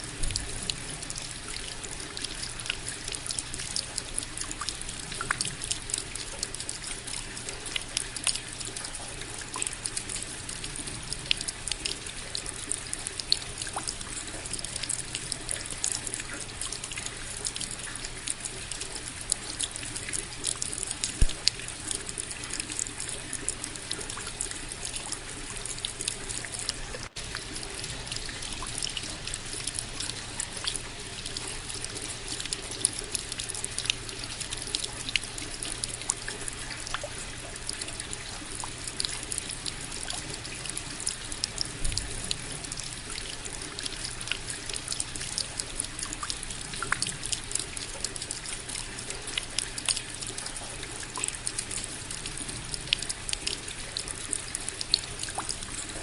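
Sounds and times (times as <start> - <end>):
raindrops striking close by: 0.0 - 56.0
steady rain: 0.0 - 56.0
water trickling: 0.0 - 56.0.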